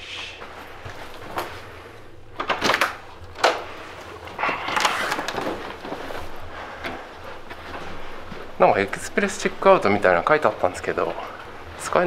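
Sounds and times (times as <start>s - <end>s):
rushing rolling noise: 0.0s - 12.0s.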